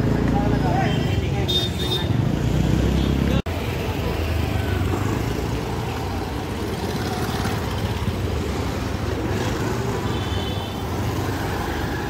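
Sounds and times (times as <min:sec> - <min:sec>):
motorcycles and scooters passing: 0:00.0 - 0:12.0.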